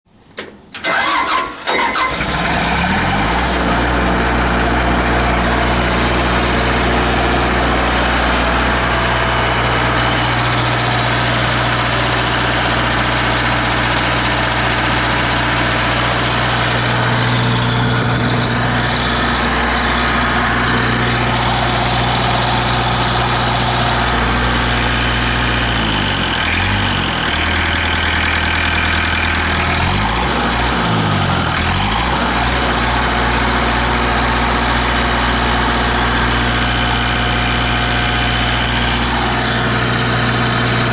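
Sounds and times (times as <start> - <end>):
diesel engine running: 0.8 - 40.9.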